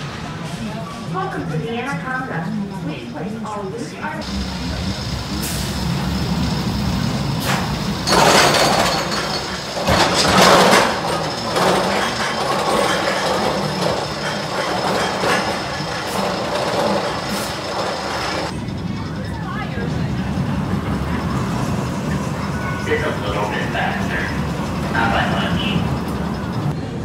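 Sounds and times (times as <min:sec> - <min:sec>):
roller coaster chain lift running: 0:02.1 - 0:27.0.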